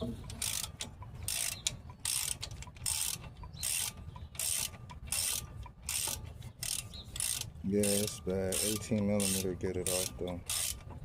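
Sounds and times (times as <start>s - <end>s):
hand ratchet clicking: 0.0s - 11.0s.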